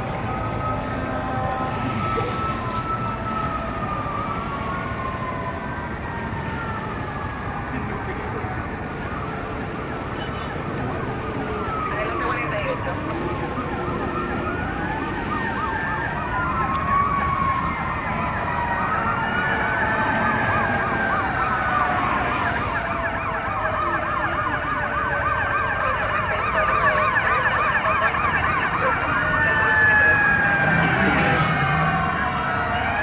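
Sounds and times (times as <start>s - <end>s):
fire engine sirens wailing: 0.0s - 33.0s
siren yelp: 0.0s - 33.0s.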